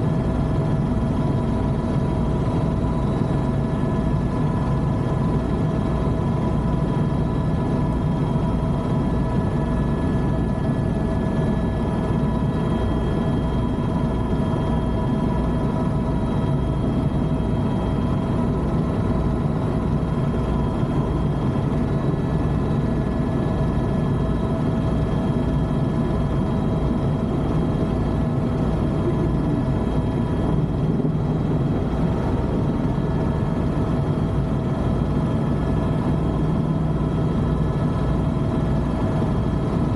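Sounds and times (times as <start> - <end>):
helicopter rotor blades beating: 0.0 - 39.9
helicopter turbine whine: 0.0 - 39.9.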